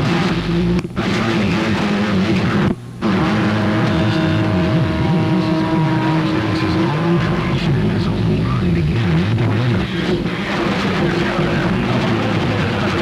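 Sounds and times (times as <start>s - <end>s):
noisy radio signal: 0.0s - 13.0s
warbling radio tones: 0.0s - 13.0s.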